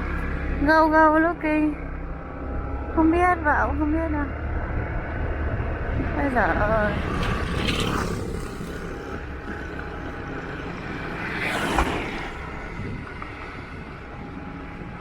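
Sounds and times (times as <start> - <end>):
road rush: 0.0 - 15.0.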